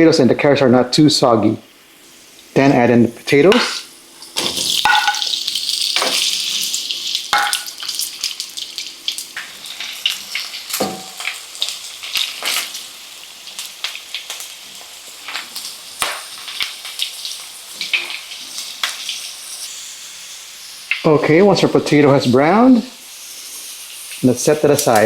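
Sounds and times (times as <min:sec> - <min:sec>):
vegetables sizzling in hot oil: 0:01.2 - 0:25.0.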